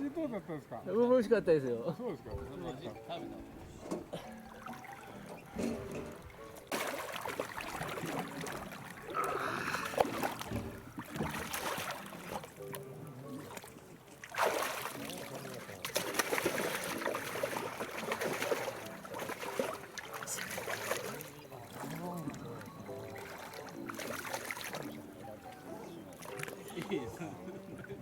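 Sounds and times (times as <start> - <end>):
faint music: 0.0 - 28.0
water splashing and sloshing: 3.7 - 28.0.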